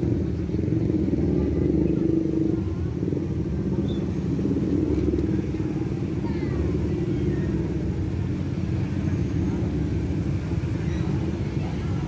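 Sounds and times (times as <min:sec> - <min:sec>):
motorcycles passing: 0:00.0 - 0:12.0.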